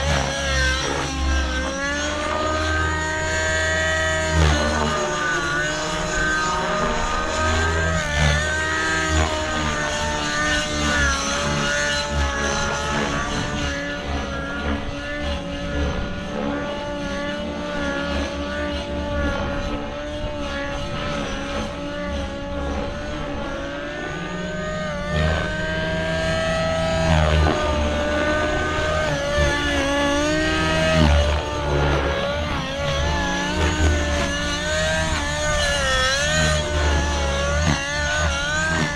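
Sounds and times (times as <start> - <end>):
model helicopter engine whine: 0.0 - 38.9.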